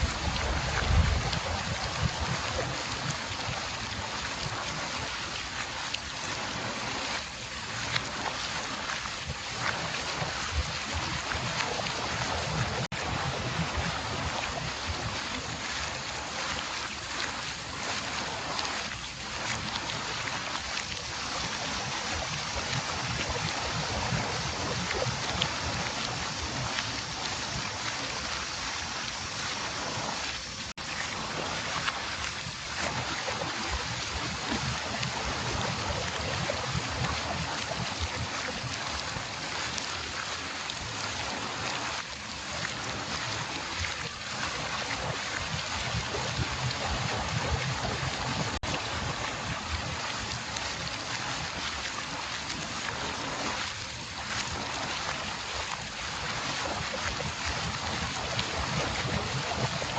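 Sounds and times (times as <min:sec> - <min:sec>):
water rushing off mill wheel: 0:00.0 - 0:59.9.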